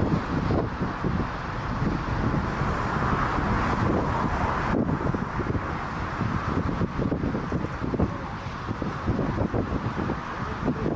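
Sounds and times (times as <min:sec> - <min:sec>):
jet engines rumbling at takeoff: 0:00.0 - 0:10.9
wind buffeting microphone: 0:00.0 - 0:10.9.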